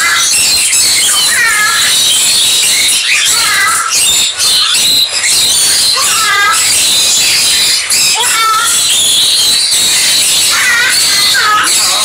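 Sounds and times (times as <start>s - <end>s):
background bird chirping: 0.0s - 12.0s
bird squealing calls: 0.0s - 12.0s.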